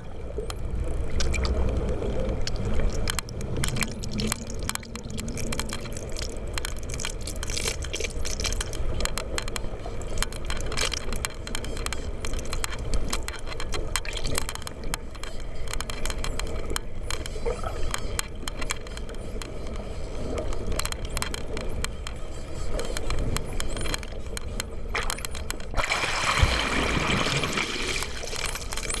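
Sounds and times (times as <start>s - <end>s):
low rumble of water flow: 0.0s - 29.0s
dolphin clicks and buzzes: 0.4s - 25.8s.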